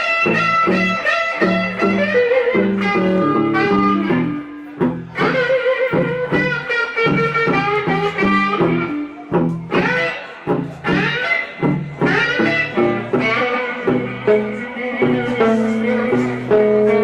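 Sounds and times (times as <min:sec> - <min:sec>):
bass guitar: 0:00.0 - 0:17.0
electric guitar lead: 0:00.0 - 0:17.0.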